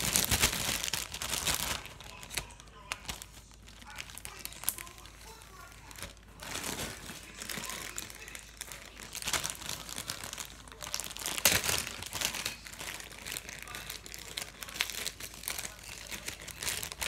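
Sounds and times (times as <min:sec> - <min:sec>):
slime crackling: 0:00.0 - 0:17.0.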